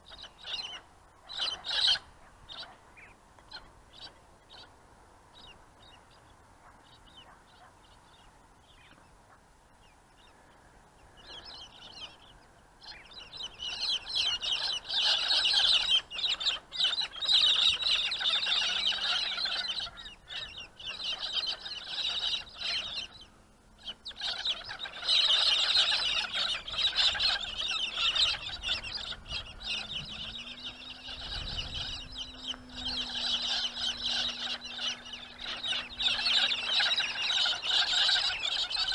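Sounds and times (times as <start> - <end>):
faint steady hum: 0.0 - 38.9
flock of birds chattering: 0.0 - 38.9.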